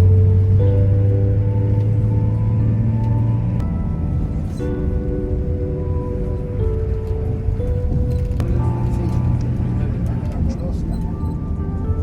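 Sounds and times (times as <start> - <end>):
deep bass drone: 0.0 - 12.0
slow sustained music chords: 0.0 - 12.0.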